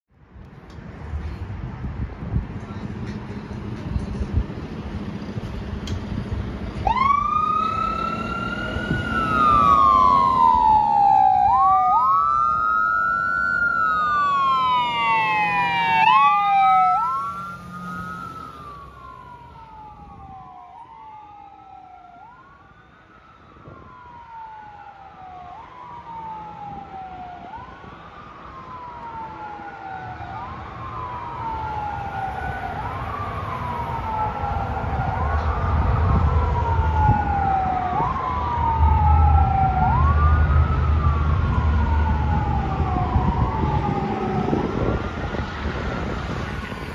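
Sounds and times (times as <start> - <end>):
truck engine rumble: 0.3 - 22.6, 23.2 - 46.9
fire engine siren wailing: 4.3 - 46.9.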